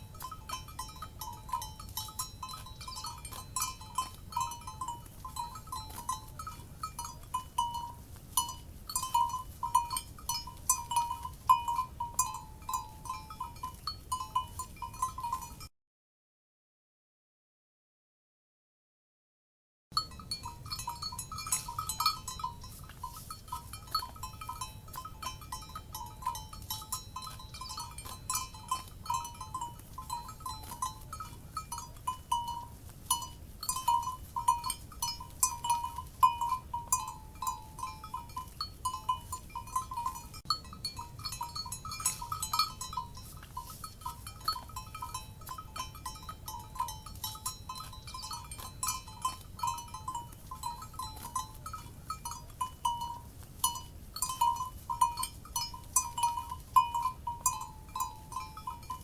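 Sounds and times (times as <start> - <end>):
low steady rumble: 0.0 - 15.6, 20.0 - 59.0
livestock bells clanking: 0.0 - 15.7, 20.0 - 59.0.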